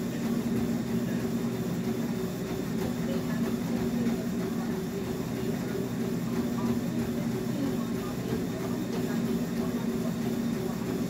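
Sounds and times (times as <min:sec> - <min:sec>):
footfalls thudding on treadmill: 0:00.0 - 0:11.0
treadmill motor and belt hum: 0:00.0 - 0:11.0.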